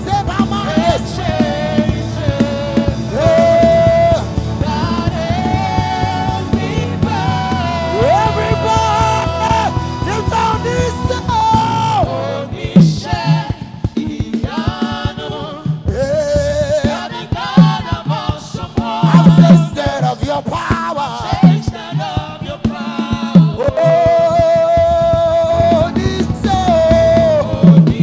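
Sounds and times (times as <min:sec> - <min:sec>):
band playing: 0:00.0 - 0:28.0
drum hits: 0:00.0 - 0:28.0
voices singing long notes: 0:00.0 - 0:28.0.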